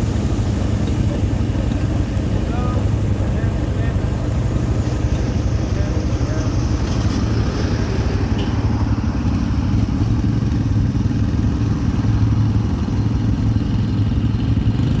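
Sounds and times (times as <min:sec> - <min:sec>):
quad bike engines droning: 0:00.0 - 0:15.0.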